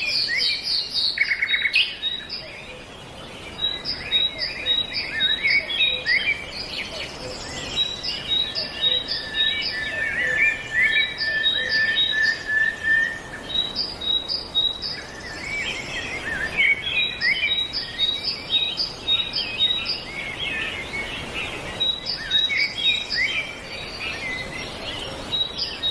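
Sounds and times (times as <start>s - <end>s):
songbirds chirping and trilling: 0.0s - 25.9s.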